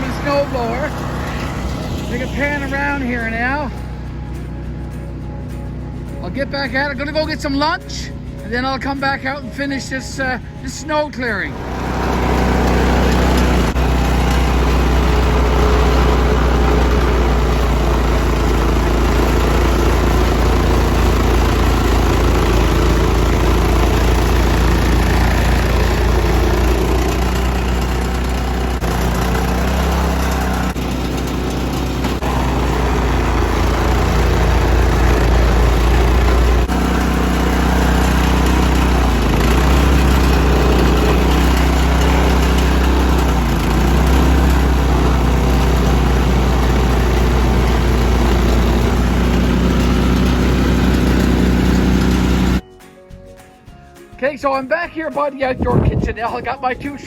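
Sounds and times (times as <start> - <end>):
snowblower engine running: 0.0 - 52.6.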